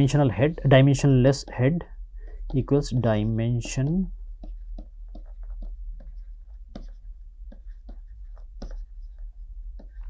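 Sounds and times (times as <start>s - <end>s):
low steady hum: 0.0s - 10.0s
stylus tapping on a tablet: 1.4s - 10.0s.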